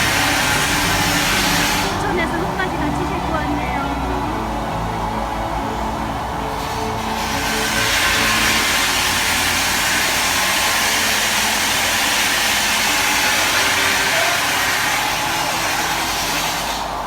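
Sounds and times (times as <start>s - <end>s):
low engine-like drone: 0.0s - 17.0s.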